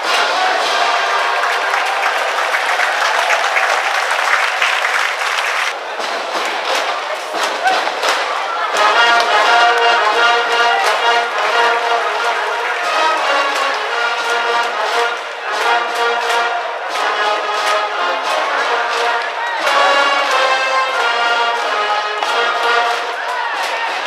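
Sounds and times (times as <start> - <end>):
brass band playing: 0.0 - 24.0
steady drumbeat: 0.0 - 24.0.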